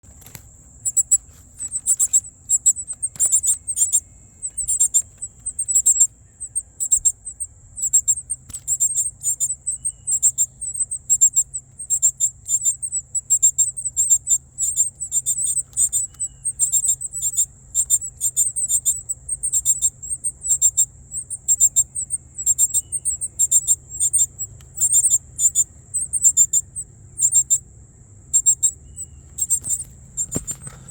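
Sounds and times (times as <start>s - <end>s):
nestlings chirping: 0.0s - 30.9s.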